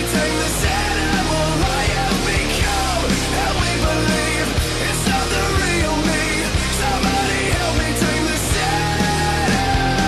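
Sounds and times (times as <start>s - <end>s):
drum beats: 0.0s - 10.0s
person singing: 0.0s - 10.0s.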